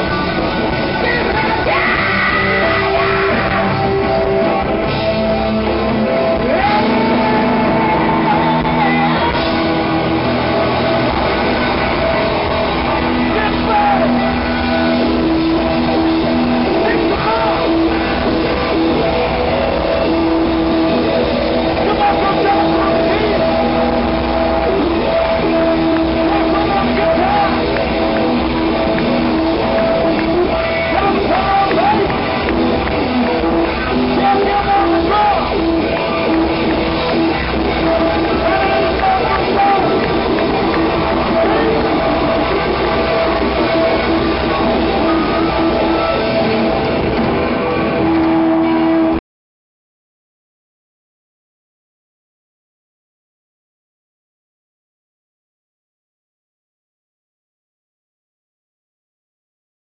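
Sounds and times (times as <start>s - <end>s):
electric bass: 0.0s - 49.2s
electric guitars: 0.0s - 49.2s
live band playing amplified music: 0.0s - 49.2s.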